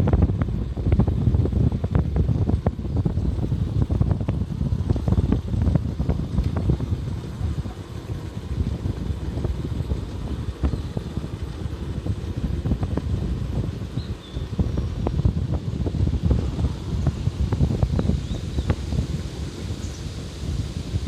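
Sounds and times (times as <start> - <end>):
vehicle running rumble: 0.0 - 21.0
wind buffeting microphone: 0.0 - 21.0.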